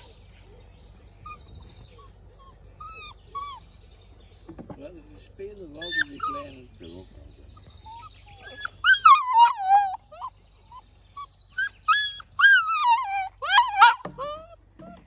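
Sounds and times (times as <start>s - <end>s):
puppies whining and yelping: 0.0s - 15.0s.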